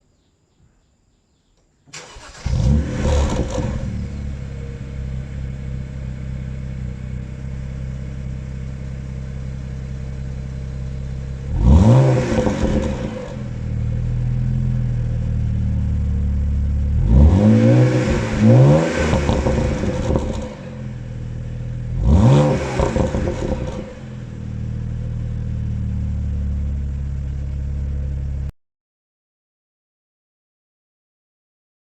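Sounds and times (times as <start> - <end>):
car engine starting and revving: 1.9 - 28.5.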